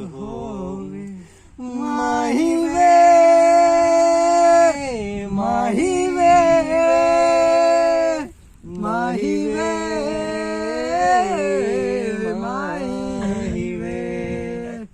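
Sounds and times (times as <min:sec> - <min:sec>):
person singing unaccompanied: 0:00.0 - 0:14.9.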